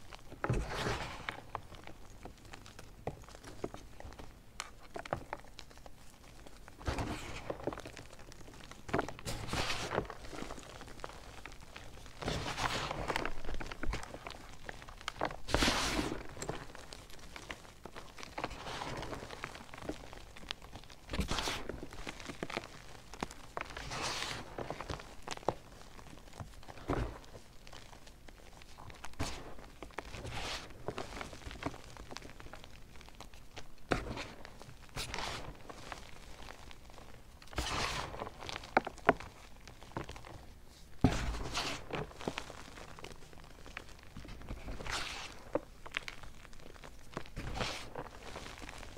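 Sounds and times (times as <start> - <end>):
chalk crumbling crackle: 0.0 - 48.9.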